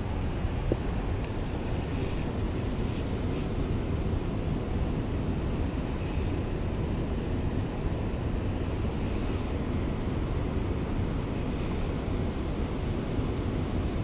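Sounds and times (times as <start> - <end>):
low rushing noise: 0.0 - 14.0.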